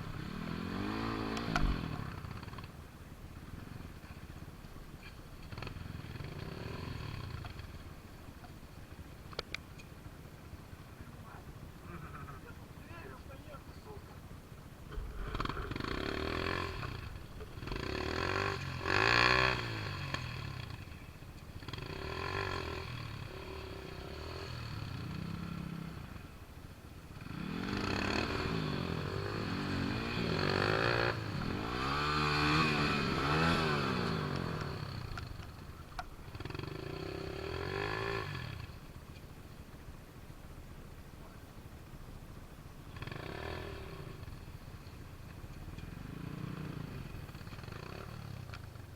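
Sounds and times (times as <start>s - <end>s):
motorcycle engine revving: 0.0s - 9.5s, 10.4s - 39.3s, 42.8s - 48.9s.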